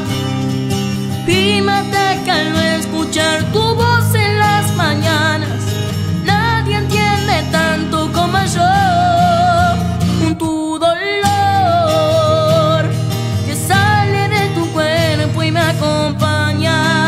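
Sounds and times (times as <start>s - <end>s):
acoustic guitar: 0.0s - 17.0s
young man singing a ballad: 1.2s - 17.0s.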